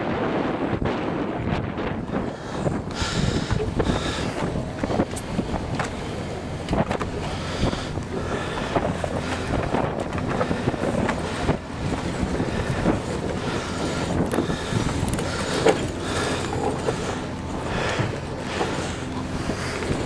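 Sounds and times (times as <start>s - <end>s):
boat low rumble: 0.0s - 20.0s
wind buffeting microphone: 0.0s - 20.0s.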